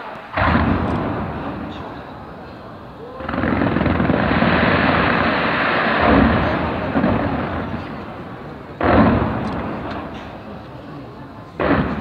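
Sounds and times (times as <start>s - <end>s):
loud firework bang: 0.3s - 2.2s, 3.2s - 10.6s, 11.6s - 12.0s.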